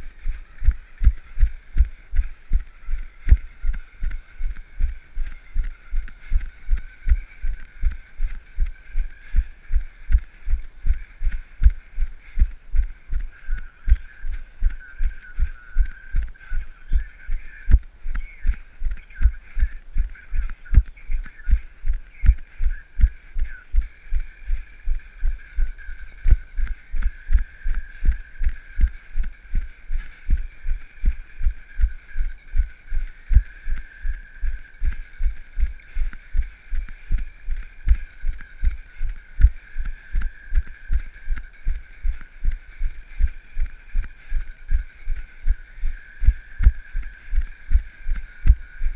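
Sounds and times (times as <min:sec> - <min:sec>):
faint high whine: 0:00.0 - 0:48.9.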